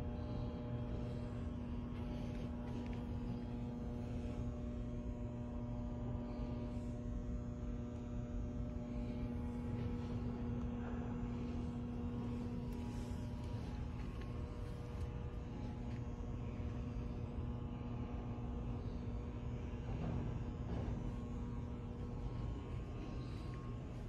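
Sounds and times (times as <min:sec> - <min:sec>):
electrical-mechanical hum: 0:00.0 - 0:24.0.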